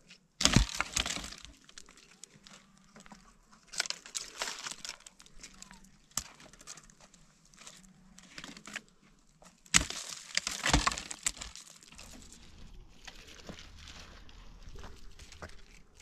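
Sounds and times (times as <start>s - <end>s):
branches dragged over stones: 0.0s - 16.0s
dry branches snapping: 0.1s - 16.0s.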